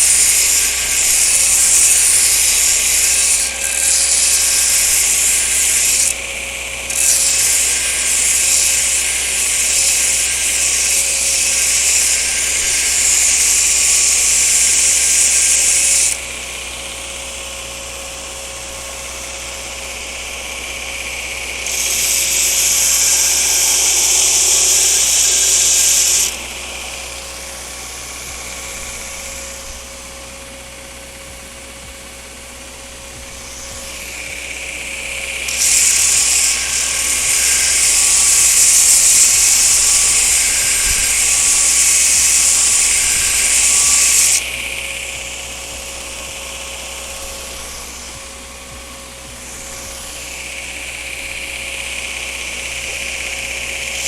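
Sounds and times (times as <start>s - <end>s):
belt grinder running: 0.0s - 54.0s
steel grinding on belt: 0.0s - 54.0s.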